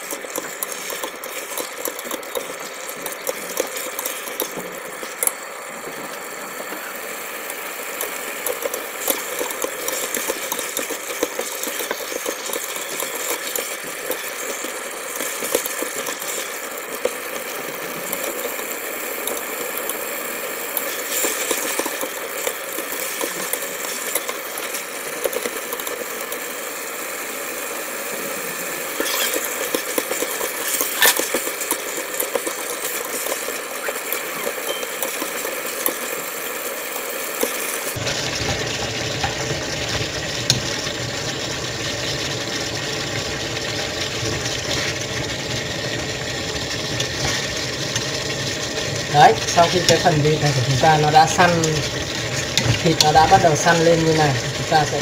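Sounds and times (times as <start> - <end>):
meat sizzling in pot: 0.0 - 55.0.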